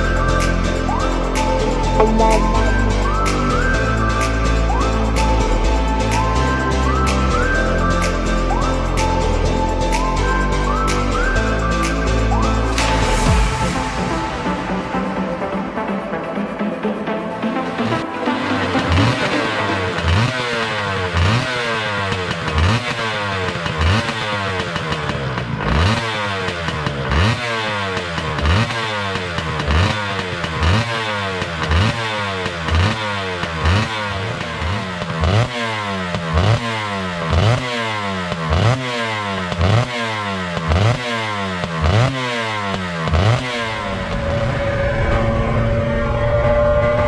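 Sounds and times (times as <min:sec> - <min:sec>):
motorcycle engine revving: 0:00.0 - 0:14.4, 0:17.7 - 0:47.0.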